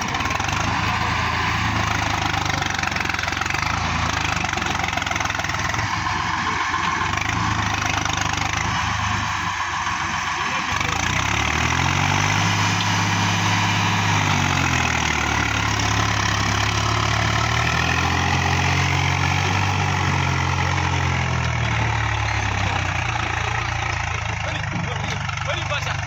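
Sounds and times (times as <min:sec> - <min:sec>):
tractor diesel engine running hard: 0:00.0 - 0:26.0.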